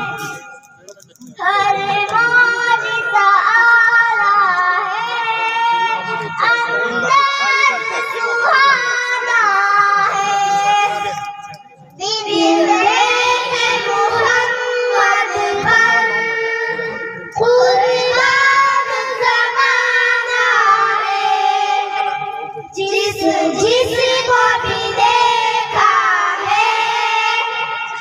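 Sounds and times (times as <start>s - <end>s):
girls singing devotional song: 1.4s - 28.0s.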